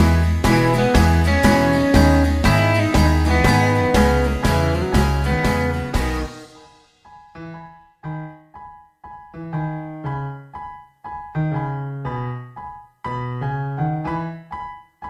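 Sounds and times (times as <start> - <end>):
slow piano-like keyboard music: 0.0 - 15.0.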